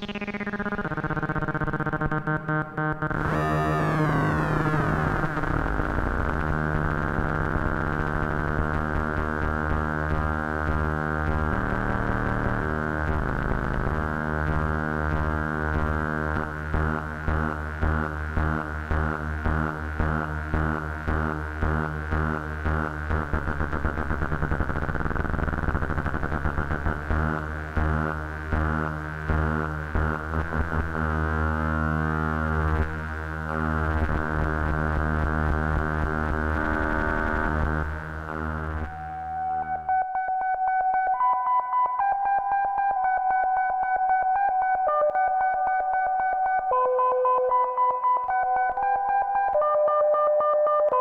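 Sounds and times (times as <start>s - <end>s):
buzzy synthesizer drone: 0.0s - 51.0s.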